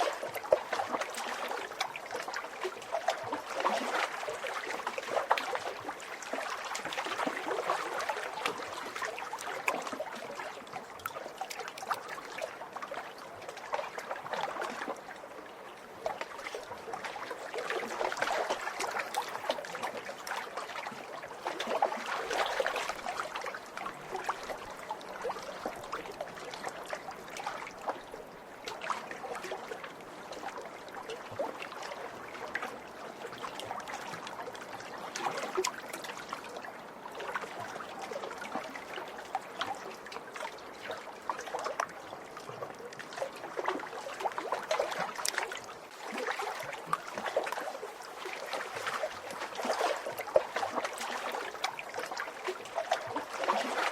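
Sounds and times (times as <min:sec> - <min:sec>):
small waves lapping on shore: 0:00.0 - 0:53.9.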